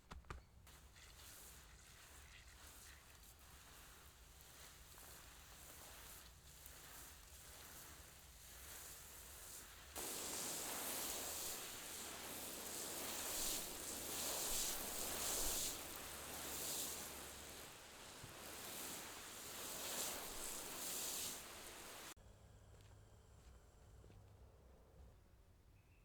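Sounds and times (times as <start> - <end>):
rustling hiss: 0.7 - 22.2.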